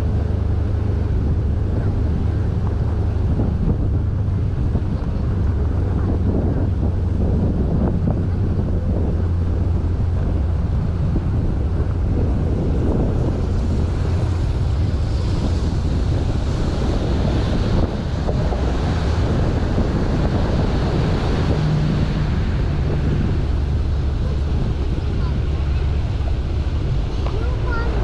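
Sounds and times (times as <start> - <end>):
boat engine humming: 0.0 - 28.0
water rushing along hull: 0.0 - 28.0
wind on microphone: 0.0 - 28.0.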